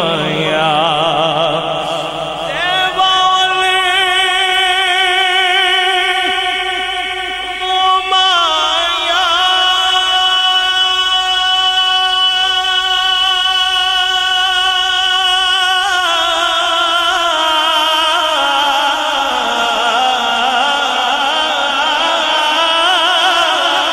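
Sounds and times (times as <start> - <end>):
man singing a long note: 0.0 - 23.9.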